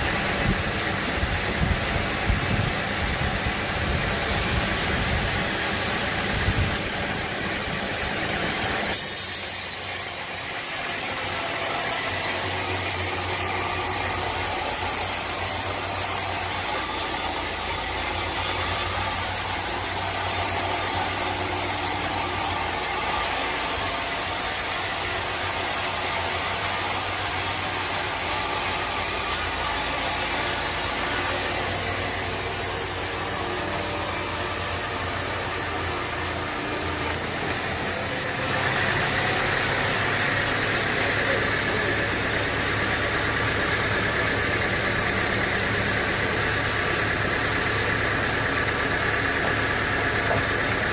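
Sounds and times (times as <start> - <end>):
sawmill machinery whirring: 0.0 - 50.9.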